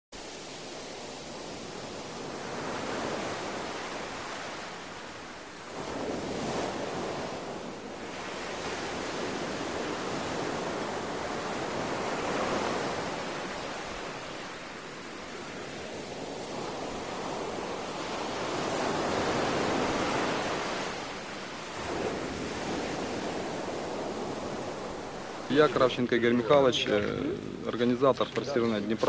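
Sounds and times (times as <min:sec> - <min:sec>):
wind gusting: 0:00.2 - 0:29.0.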